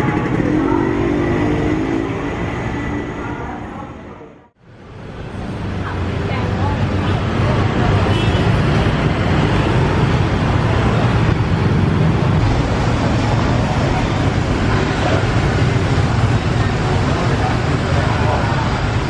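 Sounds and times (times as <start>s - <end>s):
motorbikes and cars passing: 0.0s - 19.0s.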